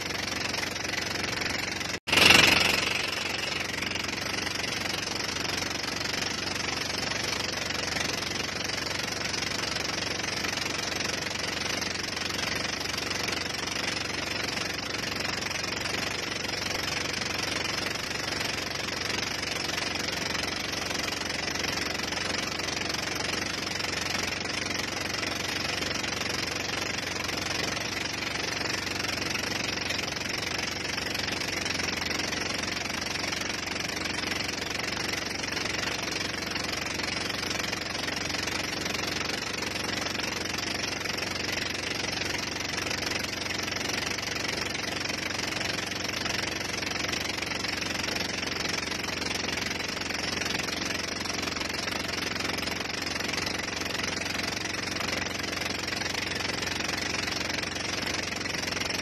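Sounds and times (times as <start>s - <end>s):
boat motor running: 0.0s - 59.0s.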